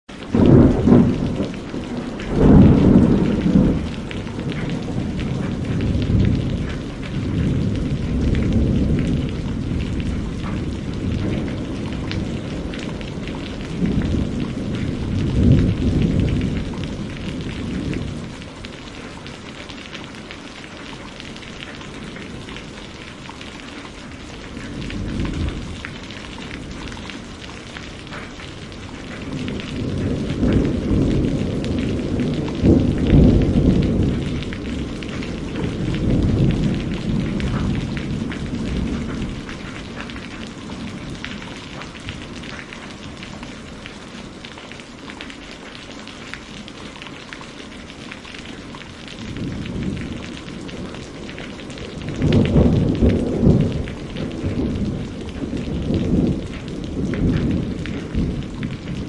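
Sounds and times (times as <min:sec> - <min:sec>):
steady rain: 0:00.0 - 0:59.0
thunder rumbling: 0:00.2 - 0:20.0, 0:21.2 - 0:45.4, 0:46.0 - 0:59.0.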